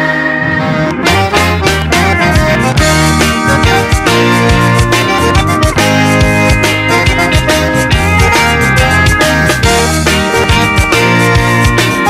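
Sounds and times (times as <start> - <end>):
zydeco music with steady beat: 0.7 - 12.0.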